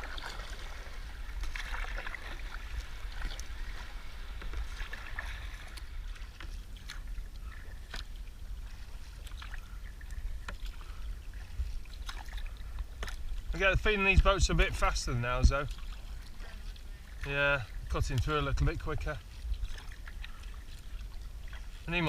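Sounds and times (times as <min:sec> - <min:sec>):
paddle blades splashing in water: 0:00.0 - 0:22.0
wind rumble on microphone: 0:00.0 - 0:22.0.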